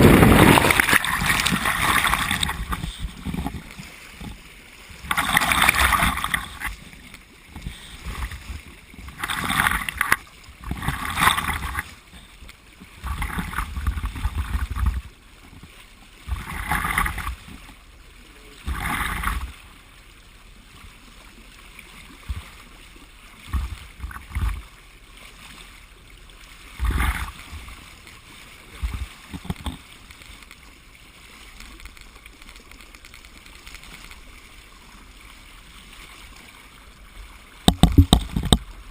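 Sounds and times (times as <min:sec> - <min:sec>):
water splashing along hull: 0:00.0 - 0:38.9.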